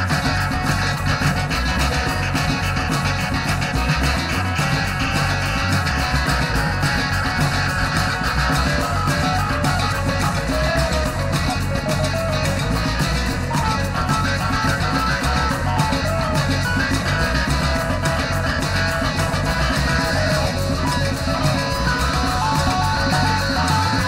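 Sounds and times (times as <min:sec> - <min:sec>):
guitar-driven rock song: 0:00.0 - 0:24.0.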